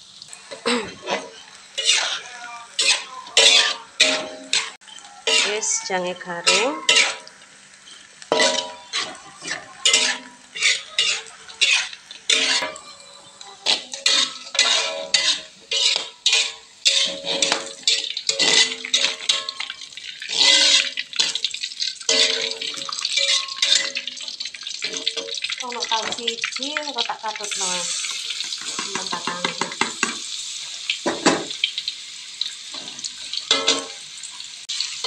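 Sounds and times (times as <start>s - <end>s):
spatula clanking on metal wok: 0.6s - 2.2s, 2.8s - 7.3s, 8.0s - 26.6s, 27.4s - 30.3s, 32.7s - 34.0s.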